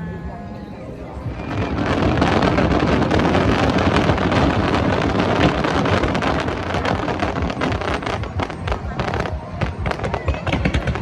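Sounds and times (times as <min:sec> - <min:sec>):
fireworks barrage: 0:01.2 - 0:11.0.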